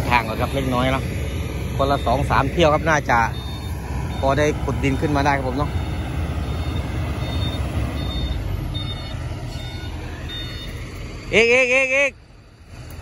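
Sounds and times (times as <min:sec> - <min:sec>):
reversing alarm beeping: 0:00.0 - 0:12.7
excavator diesel engine rumbling: 0:00.0 - 0:13.0.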